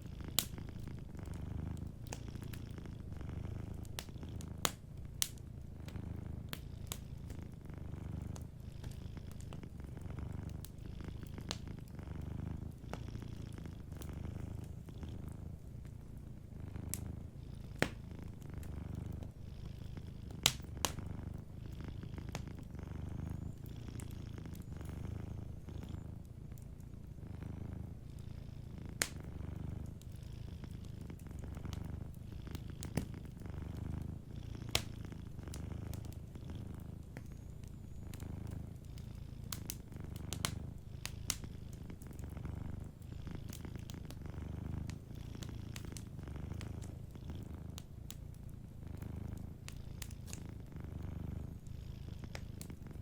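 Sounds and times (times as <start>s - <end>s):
cat purring: 0.0s - 53.0s
wood fire crackling: 0.0s - 53.0s.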